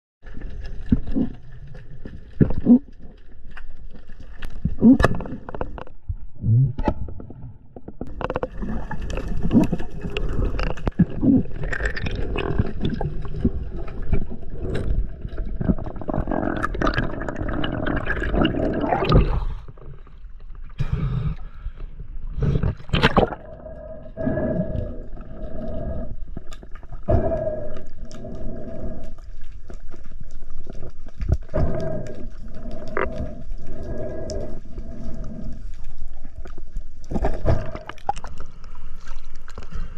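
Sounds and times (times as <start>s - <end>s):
water churning and gurgling: 0.2s - 39.9s.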